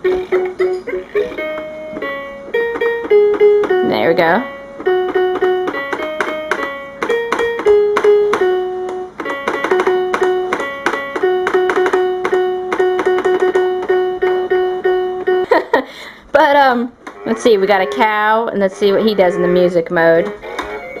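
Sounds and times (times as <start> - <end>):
toy piano keys playing melody: 0.0 - 15.9, 16.6 - 21.0.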